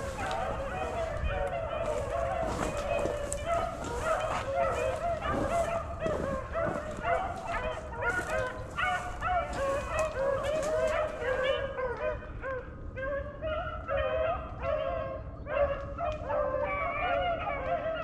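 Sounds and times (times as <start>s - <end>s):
dogs baying in chorus: 0.0s - 18.0s.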